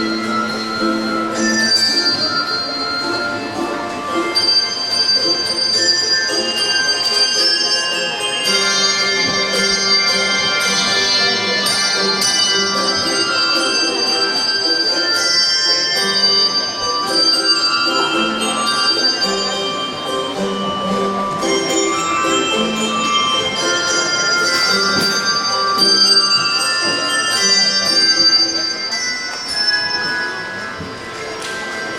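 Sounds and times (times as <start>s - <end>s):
handbell choir playing: 0.0s - 31.9s
low bell notes held: 0.0s - 31.9s.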